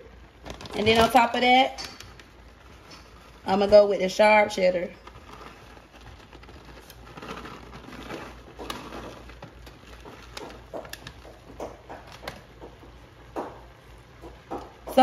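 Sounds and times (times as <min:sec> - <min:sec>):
plastic bag crinkling: 0:00.0 - 0:12.7
cheese rustling: 0:00.0 - 0:14.5.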